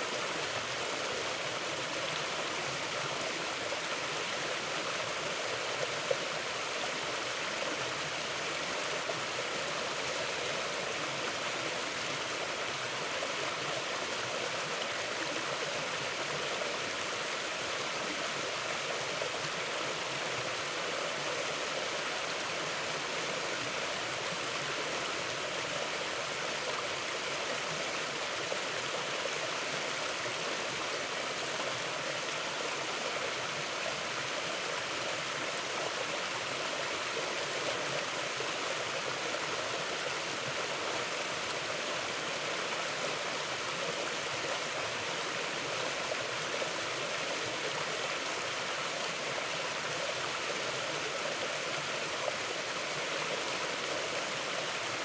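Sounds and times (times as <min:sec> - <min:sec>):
river rushing water: 0:00.0 - 0:55.0.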